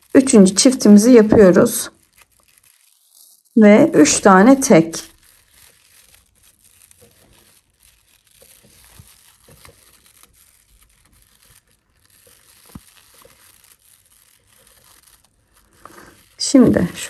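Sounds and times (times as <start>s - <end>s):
paper yarn rustling: 0.0s - 17.0s.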